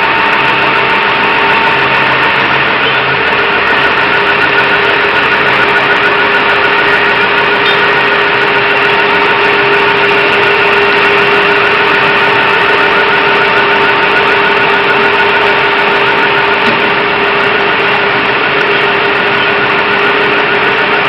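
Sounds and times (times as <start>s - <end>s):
steady held tone: 0.0s - 21.0s
truck engine drone: 0.0s - 21.0s.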